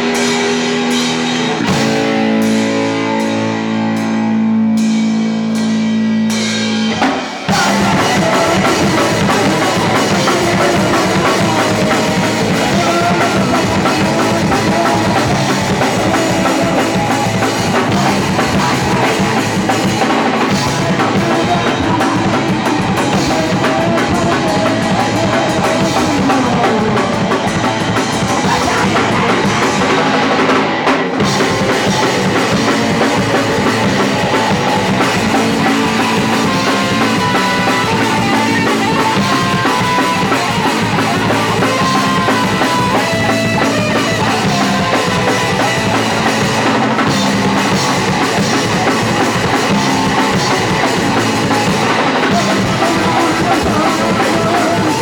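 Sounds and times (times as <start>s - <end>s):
drum kit bass drum and snare: 0.0s - 55.0s
punk rock band playing live: 0.0s - 55.0s.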